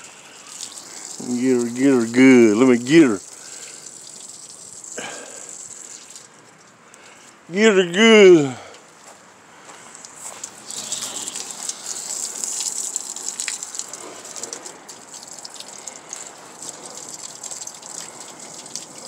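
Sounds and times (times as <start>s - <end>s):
water splashing on sheet metal: 0.0s - 6.4s, 10.0s - 19.0s
garden hose spraying water: 0.0s - 8.6s, 9.8s - 19.0s.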